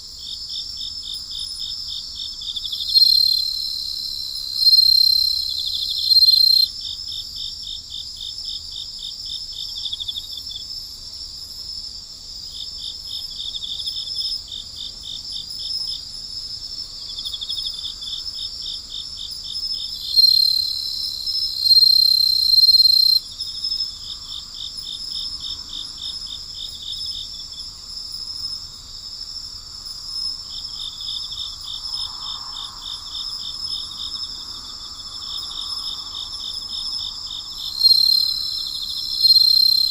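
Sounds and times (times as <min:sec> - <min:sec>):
crickets trilling: 0:00.0 - 0:39.9
loud steady cricket trill: 0:00.0 - 0:39.9
rapid pulsed cricket chirps: 0:00.0 - 0:39.9.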